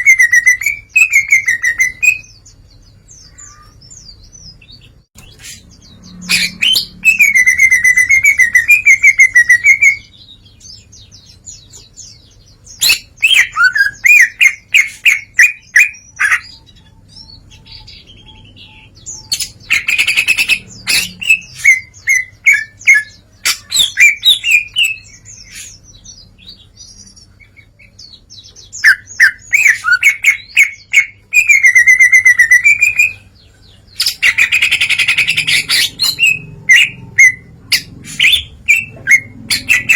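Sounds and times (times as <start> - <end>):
bird singing trills and warbles: 0.0 - 39.9.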